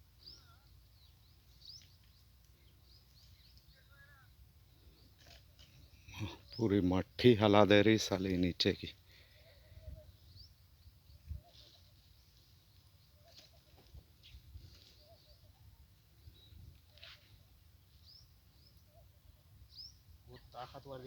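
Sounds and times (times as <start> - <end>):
distant birds chirping: 0.0 - 20.6.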